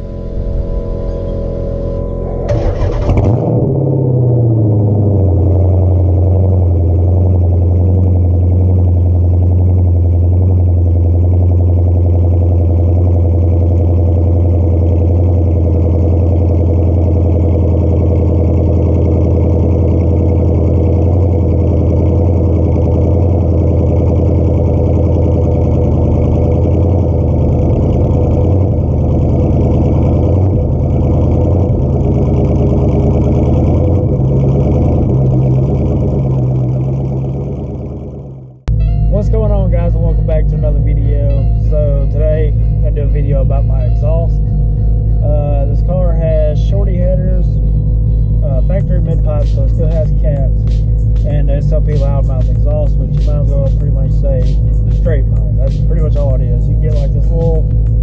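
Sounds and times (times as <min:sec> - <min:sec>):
car engine idling deeply: 0:00.0 - 0:58.0.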